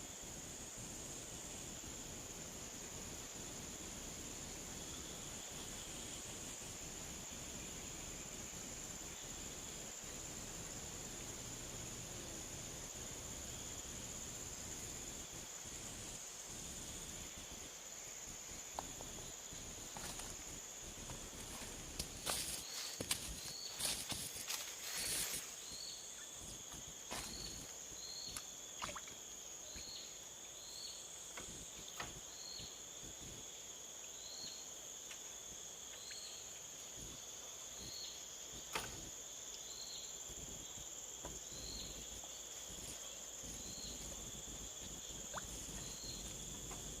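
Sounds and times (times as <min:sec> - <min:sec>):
insect drone: 0:00.0 - 0:47.0
short insect chirp: 0:00.0 - 0:47.0.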